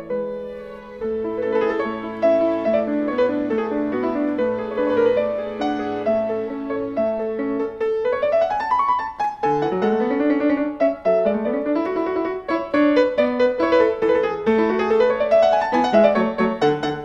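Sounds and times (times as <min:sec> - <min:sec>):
orchestra strings: 0:00.0 - 0:08.2, 0:09.4 - 0:17.0
grand piano playing: 0:00.0 - 0:17.0.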